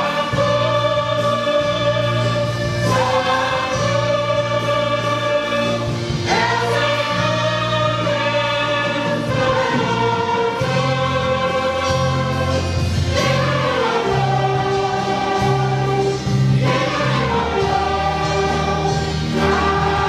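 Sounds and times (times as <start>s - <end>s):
orchestra playing a slow hymn: 0.0s - 20.0s.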